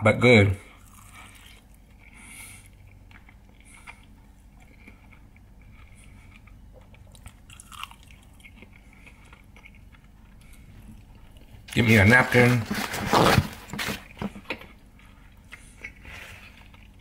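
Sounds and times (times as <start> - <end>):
faint chewing: 0.7 - 11.7, 14.1 - 17.0.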